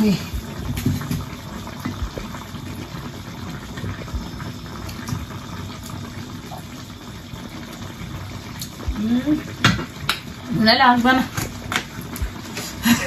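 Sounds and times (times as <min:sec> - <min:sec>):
broth bubbling in a pot: 0:00.0 - 0:13.0.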